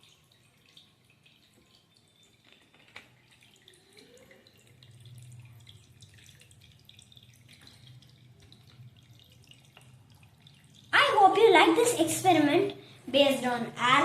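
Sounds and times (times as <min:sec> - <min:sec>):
water dripping and trickling: 0:00.0 - 0:14.0.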